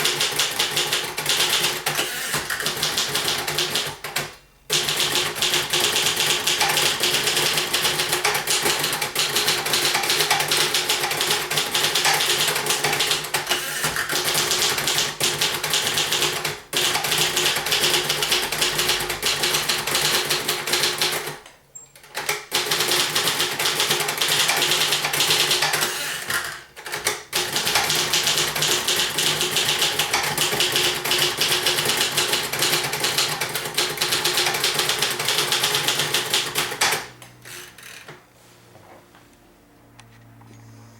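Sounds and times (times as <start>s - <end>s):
typewriter keystroke clacks: 0.0s - 37.2s.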